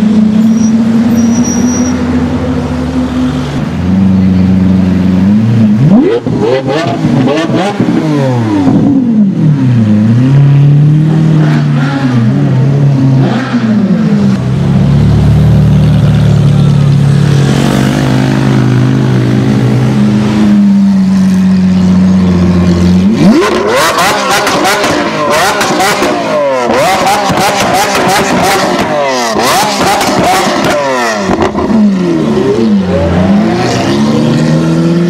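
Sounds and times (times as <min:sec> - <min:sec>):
low engine drone of passing cars: 0:00.0 - 0:35.0
sports car engine revving: 0:00.1 - 0:35.0.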